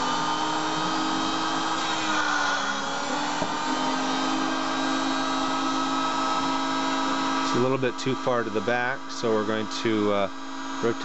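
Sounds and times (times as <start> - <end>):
lens groover motor whine: 0.0 - 11.0.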